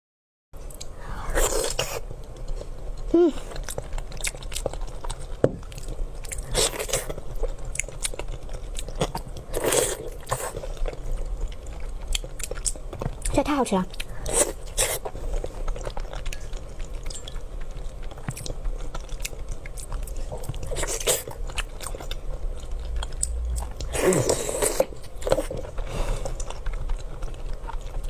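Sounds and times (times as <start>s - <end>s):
crunchy chewing of food: 0.6s - 28.0s.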